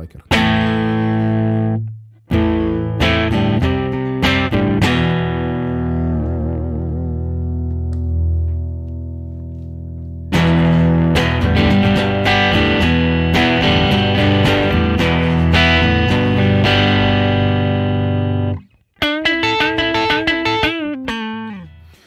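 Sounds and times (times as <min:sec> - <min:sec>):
electric guitar bending single notes: 0:00.3 - 0:22.0
electric guitar strummed chords: 0:00.3 - 0:22.0.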